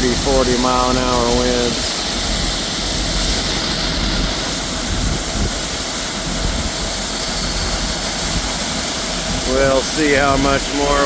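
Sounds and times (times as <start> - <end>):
tractor engine drone: 0.0 - 11.0.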